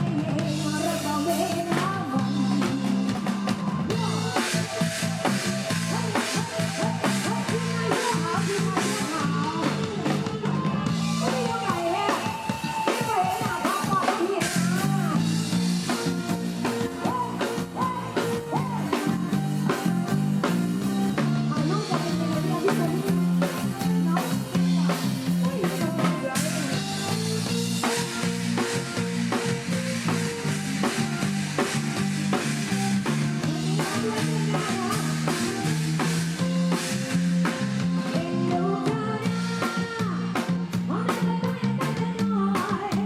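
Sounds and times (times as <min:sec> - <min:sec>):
bass line: 0:00.0 - 0:43.0
drum kit beat: 0:00.0 - 0:43.0
electric guitar: 0:00.0 - 0:43.0
person singing: 0:00.0 - 0:43.0.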